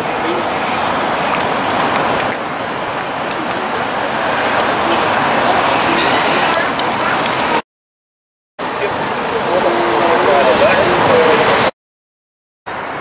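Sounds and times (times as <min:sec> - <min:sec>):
city road traffic hum: 0:00.0 - 0:07.6, 0:08.6 - 0:11.7, 0:12.7 - 0:13.0.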